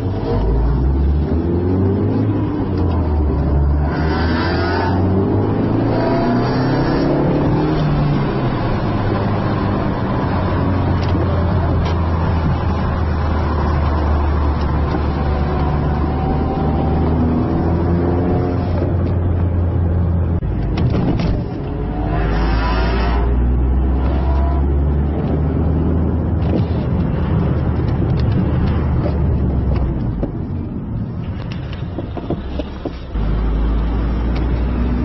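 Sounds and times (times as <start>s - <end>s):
car engine accelerating: 0.0s - 35.0s
road noise: 0.0s - 35.0s.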